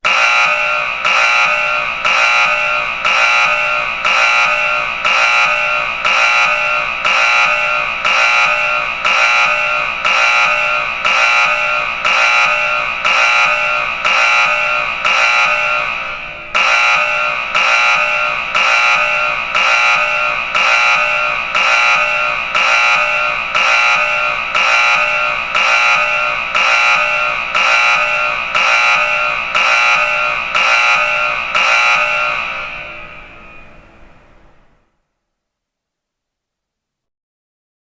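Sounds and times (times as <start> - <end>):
smoke alarm beeping: 0.0 - 34.1.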